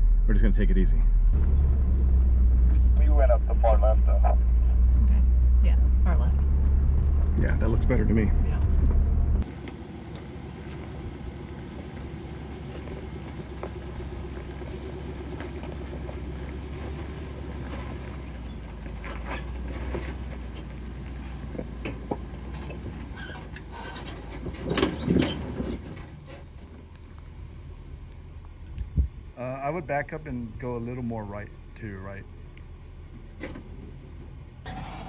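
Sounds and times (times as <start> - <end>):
vehicle engine at low speed: 0.0 - 35.0.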